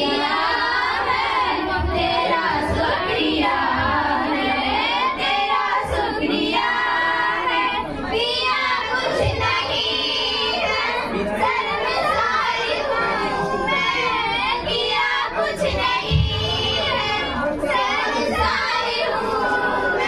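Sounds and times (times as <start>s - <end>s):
girls singing into microphones: 0.0s - 20.0s.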